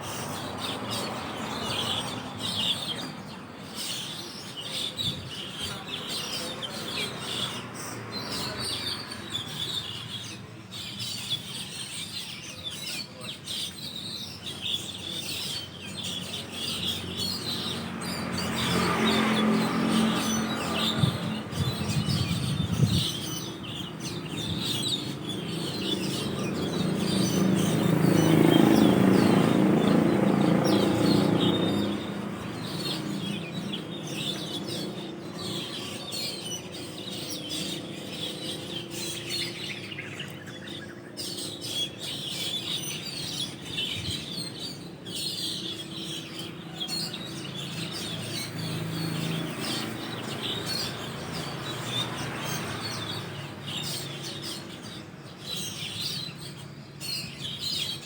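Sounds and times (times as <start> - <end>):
starlings chirping: 0.0 - 58.0.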